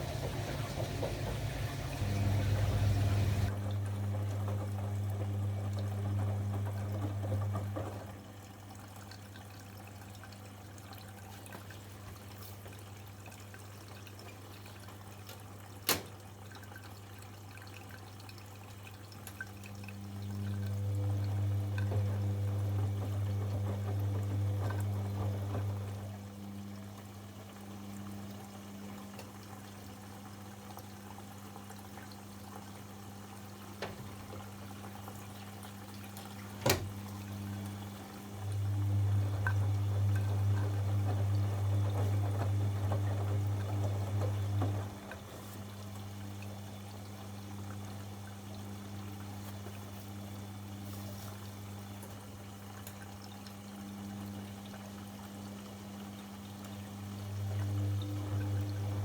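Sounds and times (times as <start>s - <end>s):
washing machine hum: 0.0s - 59.0s
water sloshing and trickling: 0.0s - 59.0s.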